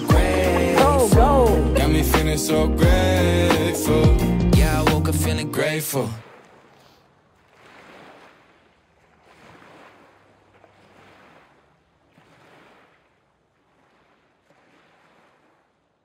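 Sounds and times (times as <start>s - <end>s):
soft waves washing in: 0.0s - 4.0s, 5.4s - 16.0s.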